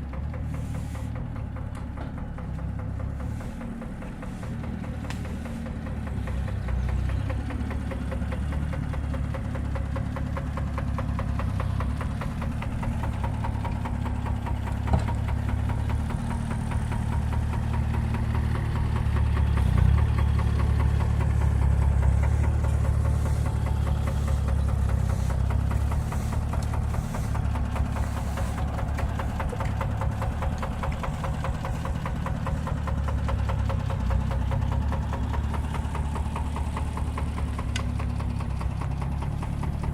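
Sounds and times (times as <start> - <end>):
diesel engine clattering: 0.0 - 39.9.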